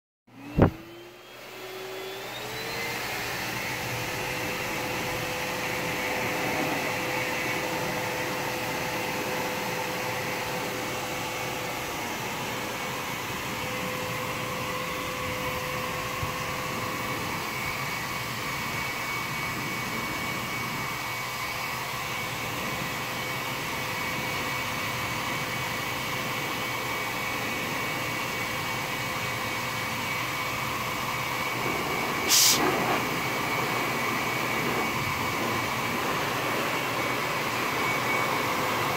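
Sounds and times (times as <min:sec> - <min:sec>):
blower motor whine and air rush: 0:00.3 - 0:38.9.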